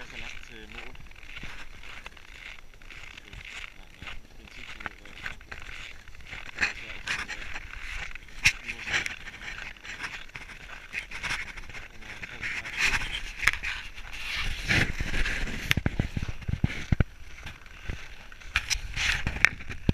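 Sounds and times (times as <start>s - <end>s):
footsteps crunching on snow: 0.0s - 19.9s.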